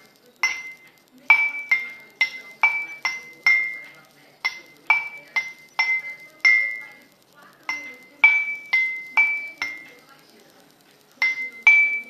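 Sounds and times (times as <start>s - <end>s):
glass cup clinking: 0.4s - 7.0s, 7.7s - 10.0s, 11.2s - 12.0s.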